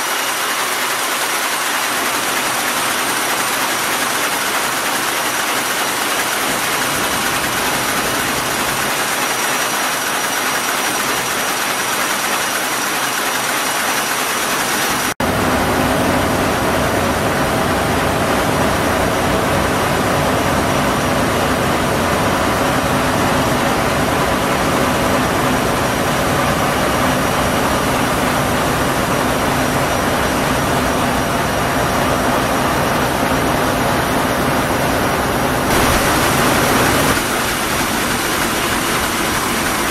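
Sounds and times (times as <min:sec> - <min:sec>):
ship diesel engine running: 0:00.0 - 0:39.9.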